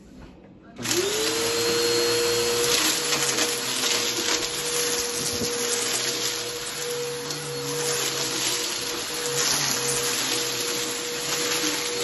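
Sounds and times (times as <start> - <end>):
vacuum cleaner motor whine: 0.8 - 12.0.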